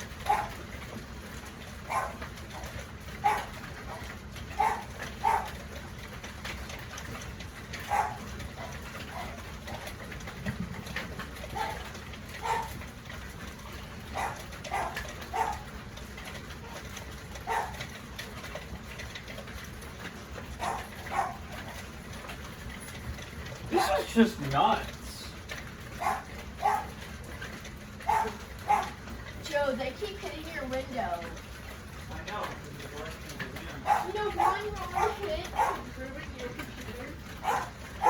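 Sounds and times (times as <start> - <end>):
hailstones striking a window: 0.0 - 38.0.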